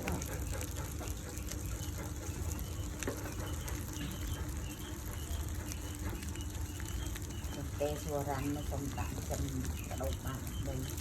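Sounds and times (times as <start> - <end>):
faint bird chirps: 1.3 - 11.0.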